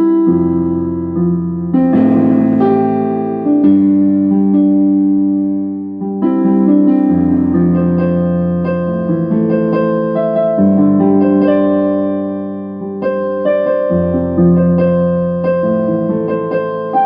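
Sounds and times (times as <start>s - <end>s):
electronic keyboard chords: 0.0s - 17.0s.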